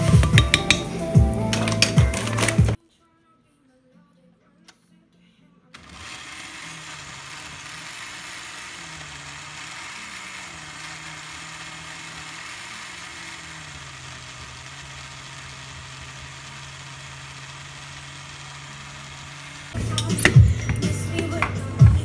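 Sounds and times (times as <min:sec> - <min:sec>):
blender motor whirring: 0:00.0 - 0:02.8, 0:05.8 - 0:22.0.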